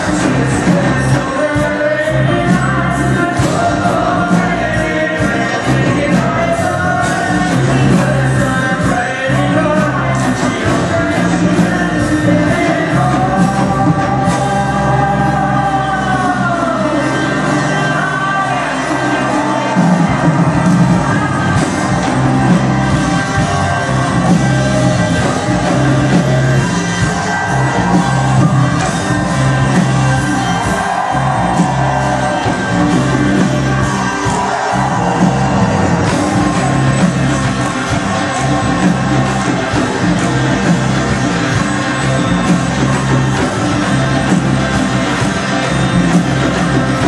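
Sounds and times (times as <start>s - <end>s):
folk-rock band playing live: 0.0s - 47.0s
strong bass line: 0.0s - 47.0s.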